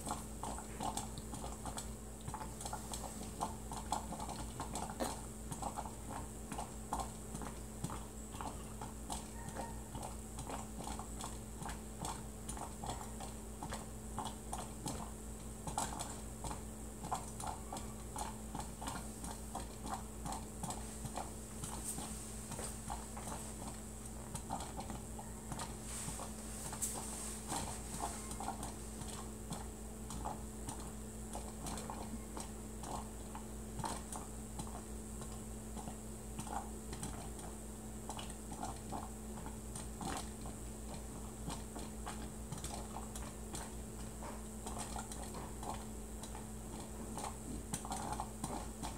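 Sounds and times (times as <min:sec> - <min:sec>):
coffee percolator perking: 0:00.0 - 0:48.9
low steady hum: 0:00.0 - 0:48.9.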